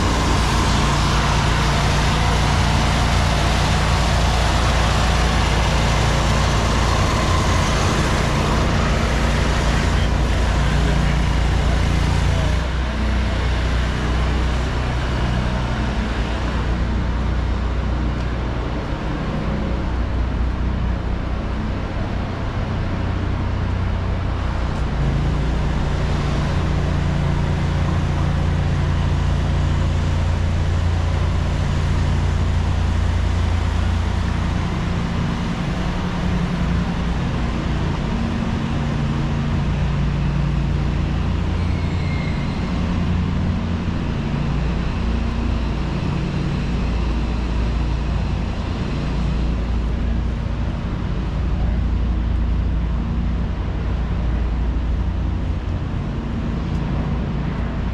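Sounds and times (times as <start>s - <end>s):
nearby engine droning: 0.0s - 57.9s
street traffic road noise: 0.0s - 57.9s
vehicle engines humming: 0.0s - 57.9s.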